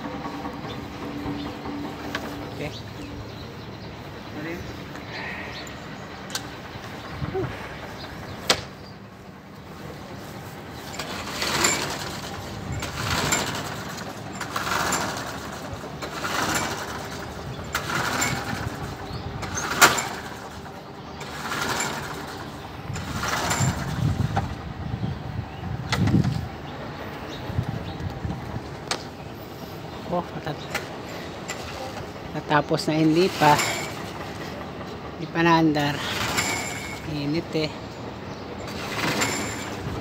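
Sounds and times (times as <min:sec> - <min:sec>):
lawnmower engine cranking: 0:00.0 - 0:08.9, 0:09.8 - 0:24.7, 0:25.8 - 0:26.5, 0:28.1 - 0:38.0, 0:38.6 - 0:40.0.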